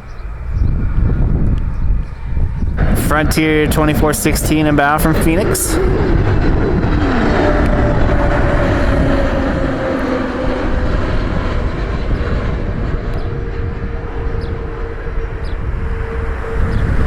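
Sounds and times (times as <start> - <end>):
jet engines rumbling with whine: 0.0 - 17.0.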